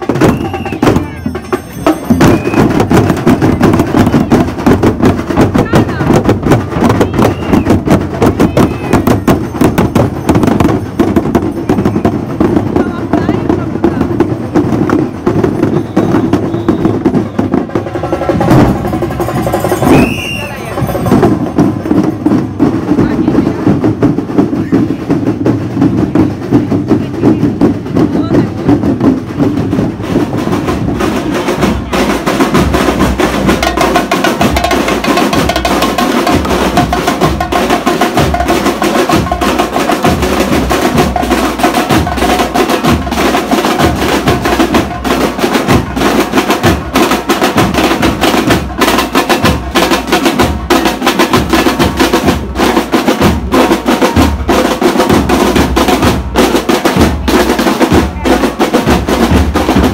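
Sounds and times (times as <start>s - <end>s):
bass drums: 0.0s - 59.9s
snare drums: 0.0s - 59.9s.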